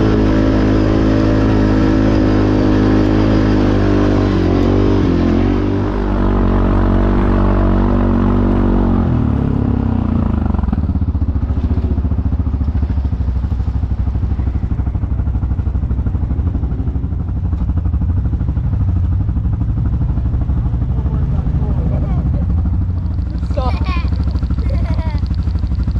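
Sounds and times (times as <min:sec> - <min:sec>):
atv engine running: 0:00.0 - 0:25.9.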